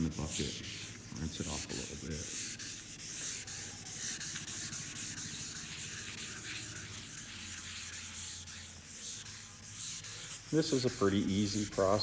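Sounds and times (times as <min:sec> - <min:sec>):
wet sandpaper rubbing: 0:00.0 - 0:12.0.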